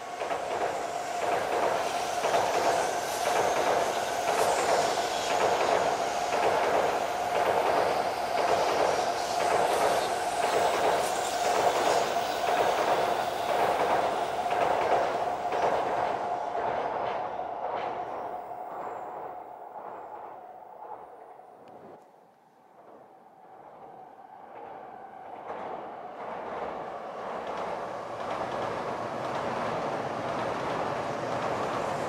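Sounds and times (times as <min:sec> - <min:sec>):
train wheels rushing on rail: 0:00.0 - 0:32.0.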